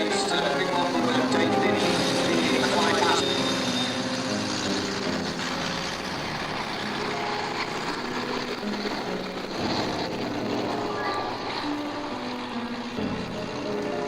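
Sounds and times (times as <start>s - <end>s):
propeller plane engines: 0.0s - 14.0s
steady rush of noise: 0.0s - 14.0s.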